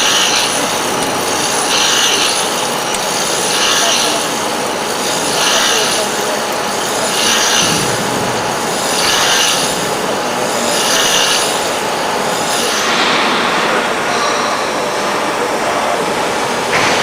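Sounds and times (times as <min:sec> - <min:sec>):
grinding machine gritty hiss: 0:00.0 - 0:17.0.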